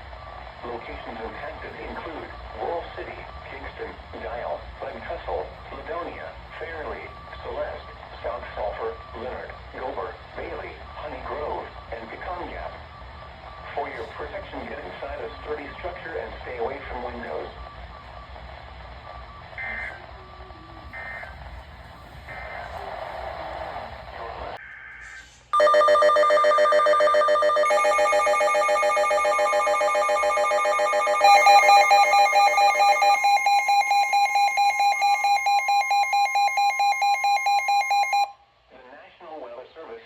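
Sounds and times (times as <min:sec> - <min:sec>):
rapidly pulsing electronic alarm beeps: 0:00.0 - 0:22.6, 0:25.6 - 0:38.4.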